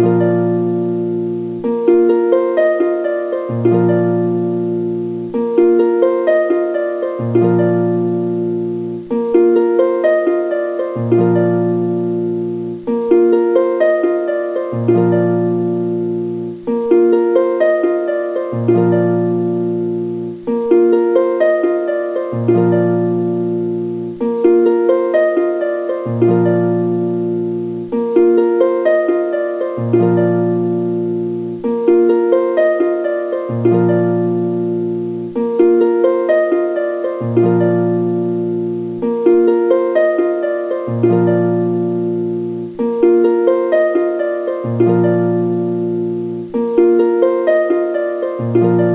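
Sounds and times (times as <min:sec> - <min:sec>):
harp-like plucked melody: 0:00.0 - 0:48.9.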